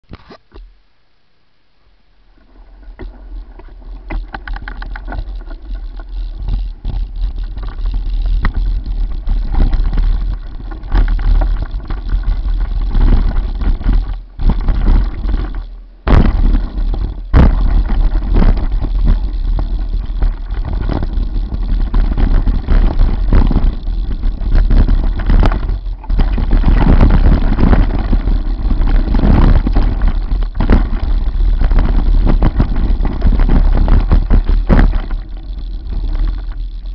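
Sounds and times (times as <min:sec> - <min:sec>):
bike rattling over bumps: 0:02.3 - 0:36.9
bike tyres rumbling on dirt: 0:02.4 - 0:36.9
wind buffeting microphone: 0:03.0 - 0:36.9.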